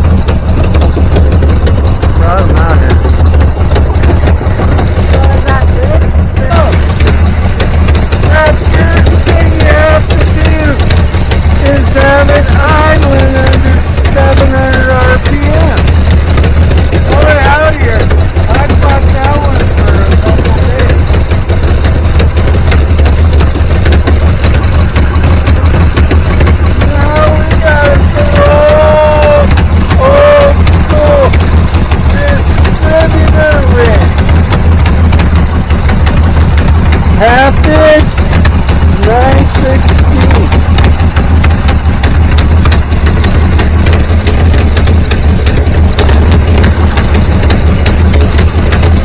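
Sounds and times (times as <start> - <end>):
car engine idling: 0.0 - 49.0
sharp even ticking: 0.0 - 49.0.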